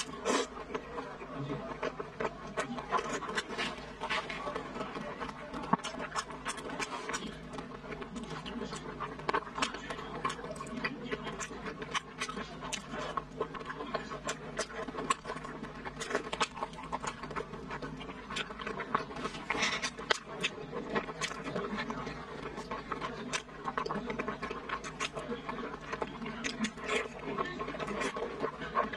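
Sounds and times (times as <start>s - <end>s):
chewing and lip-smacking: 0.0s - 28.9s.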